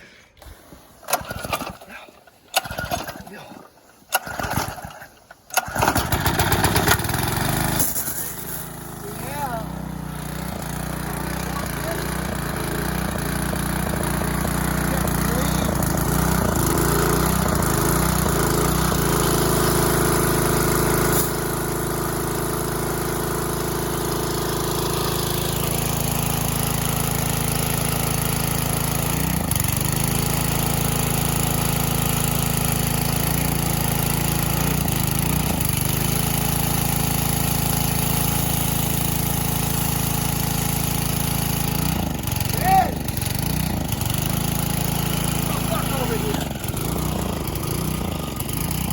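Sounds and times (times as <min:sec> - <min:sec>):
pressure washer engine running: 0:00.4 - 0:48.9.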